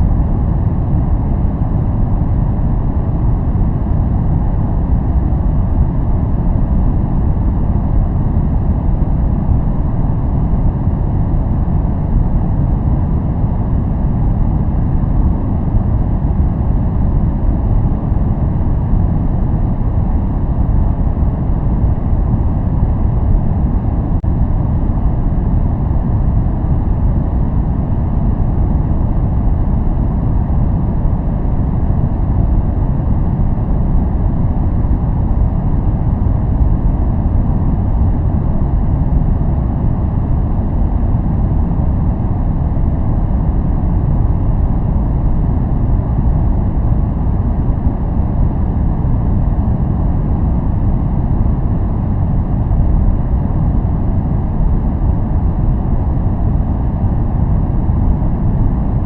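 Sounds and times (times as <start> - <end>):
deep steady noise rush: 0.0 - 59.0.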